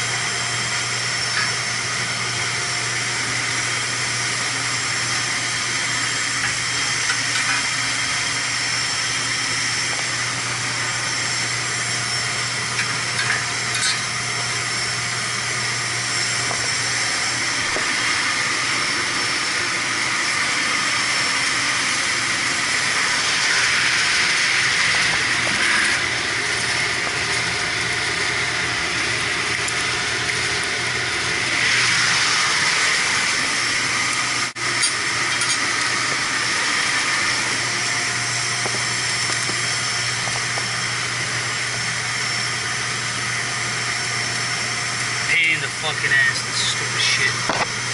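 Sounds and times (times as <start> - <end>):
machinery hissing and humming: 0.0 - 47.9.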